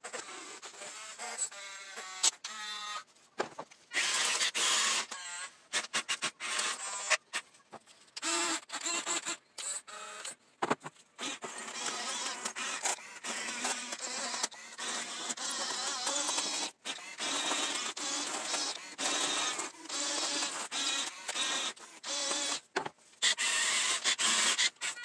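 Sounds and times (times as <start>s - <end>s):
small electric motors whining: 0.0s - 10.4s, 11.2s - 25.0s.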